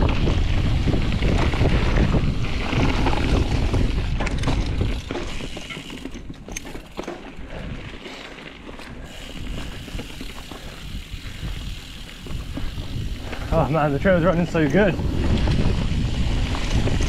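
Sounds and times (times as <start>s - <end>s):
wind buffeting microphone: 0.0s - 6.4s, 8.9s - 17.0s
bike clicks and rattles: 0.0s - 17.0s
bike tyre rumble: 0.0s - 17.0s.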